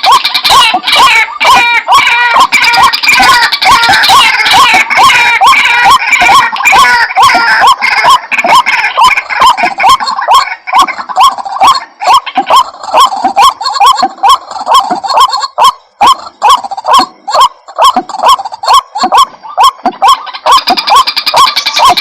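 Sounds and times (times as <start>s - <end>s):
high bird chatter: 0.0s - 22.0s
waterhen calling: 0.0s - 22.0s.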